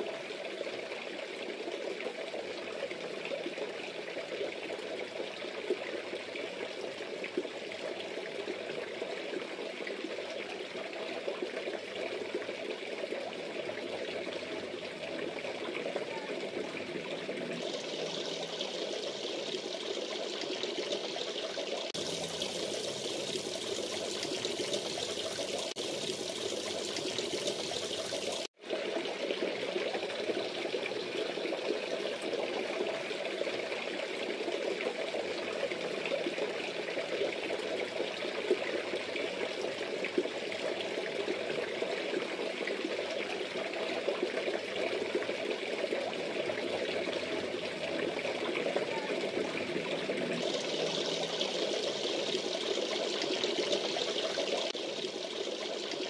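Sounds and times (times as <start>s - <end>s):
water splashing into pond: 0.0s - 56.0s.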